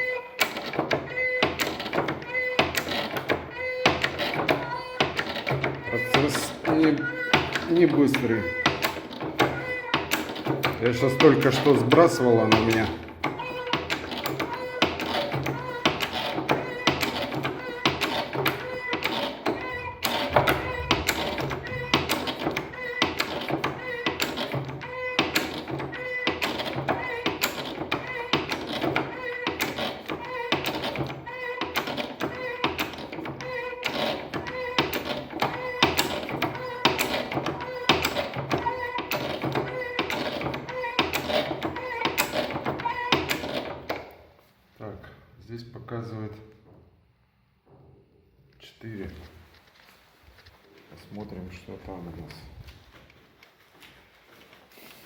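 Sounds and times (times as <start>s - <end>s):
hand pump knocking and squeaking: 0.0s - 44.2s.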